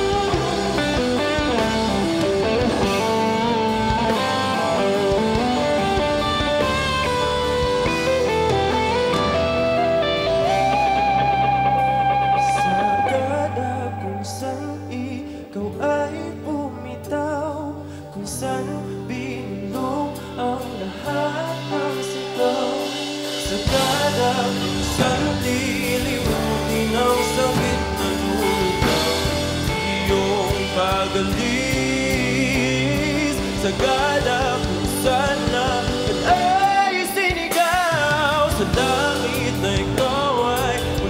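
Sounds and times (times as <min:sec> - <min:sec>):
electric guitar lead line: 0:00.0 - 0:41.0
man singing: 0:00.0 - 0:41.0
pop-rock band playing: 0:00.0 - 0:41.0.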